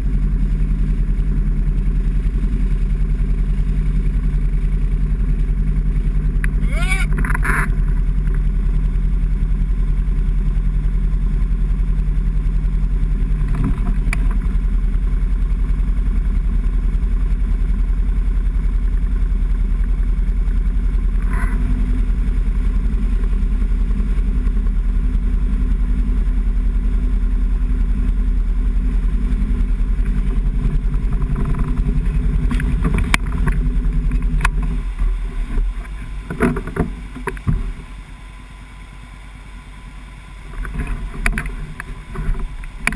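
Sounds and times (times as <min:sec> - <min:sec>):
engine running with deep rumble: 0:00.0 - 0:42.9.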